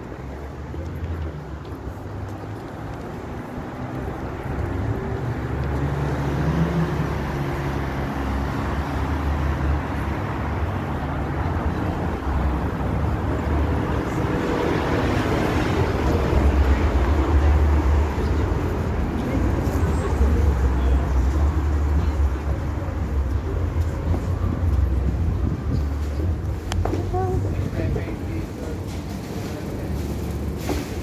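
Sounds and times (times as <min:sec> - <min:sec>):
vehicle engines rumbling: 0:00.0 - 0:31.0.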